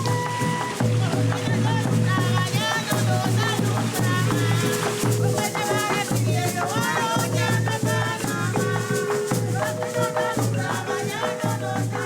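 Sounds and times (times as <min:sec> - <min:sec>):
latin music: 0:00.0 - 0:12.0
shaker rhythm: 0:00.0 - 0:12.0.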